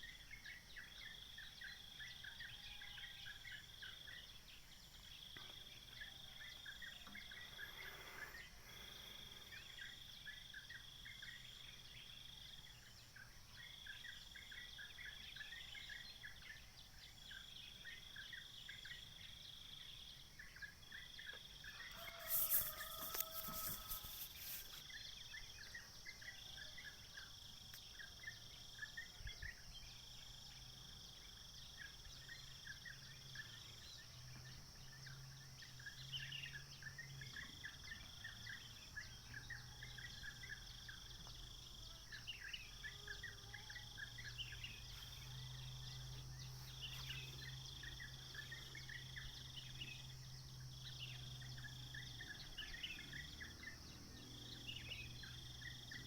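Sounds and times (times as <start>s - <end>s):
insect chirps: 0.0s - 56.0s
insects trilling: 0.7s - 11.4s, 19.8s - 56.0s.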